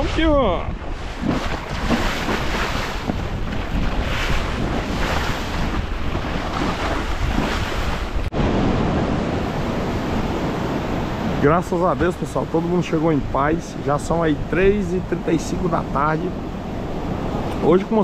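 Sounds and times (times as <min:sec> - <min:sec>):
wind buffeting microphone: 0:00.0 - 0:17.7
sea waves splashing: 0:00.0 - 0:18.0.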